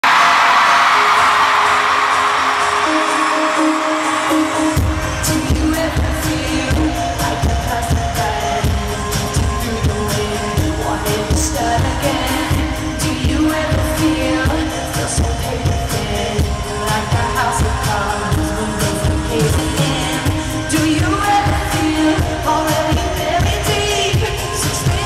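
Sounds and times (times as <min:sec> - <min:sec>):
live pop band playing: 0:00.0 - 0:25.0
woman singing into microphone: 0:04.6 - 0:25.0.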